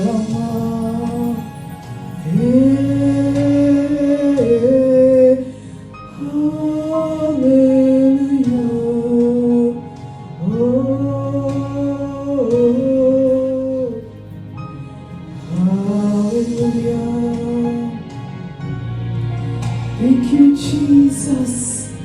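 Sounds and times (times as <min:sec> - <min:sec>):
slow worship music: 0:00.0 - 0:22.0.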